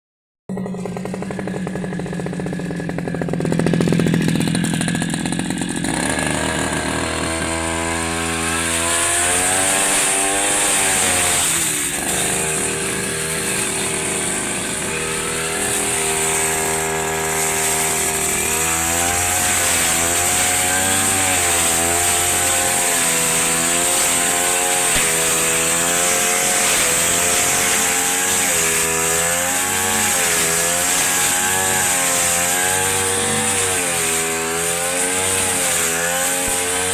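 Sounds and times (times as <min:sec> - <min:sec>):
grass cutter engine running: 0:00.5 - 0:36.9.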